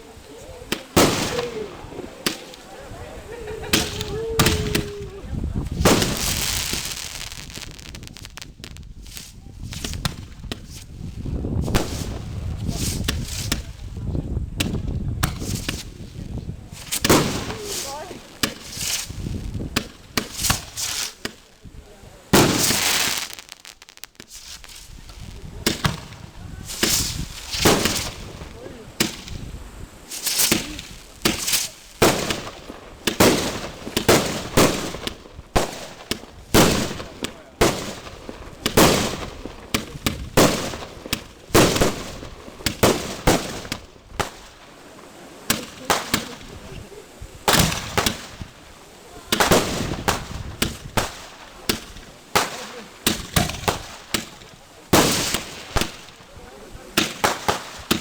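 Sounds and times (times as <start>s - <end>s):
fireworks shells bursting: 0.2s - 13.9s, 16.7s - 21.6s, 22.2s - 58.0s.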